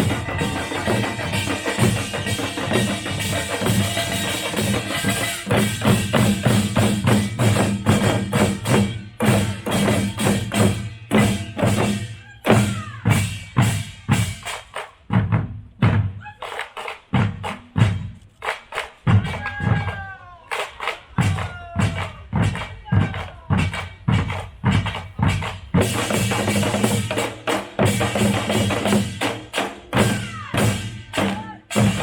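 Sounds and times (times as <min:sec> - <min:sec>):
percussion band drums and gongs: 0:00.0 - 0:32.0.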